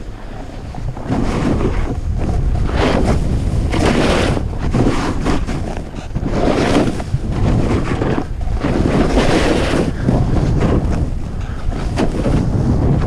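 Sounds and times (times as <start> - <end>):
wind rushing over microphone: 0.0 - 13.0
skis hissing and scraping on snow: 0.1 - 12.9.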